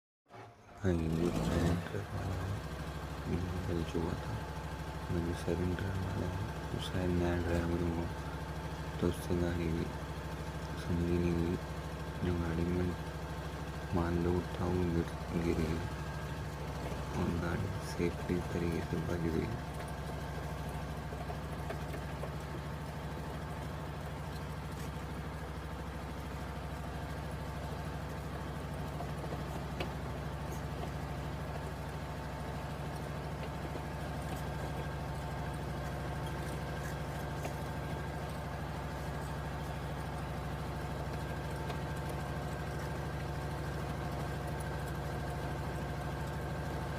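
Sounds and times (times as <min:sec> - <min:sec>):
vehicle engine humming steadily: 0:00.3 - 0:46.9.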